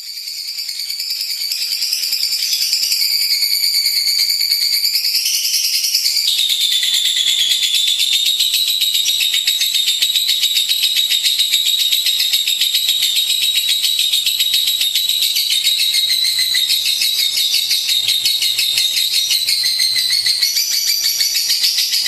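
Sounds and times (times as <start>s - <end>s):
bird chattering trill: 1.0s - 22.0s.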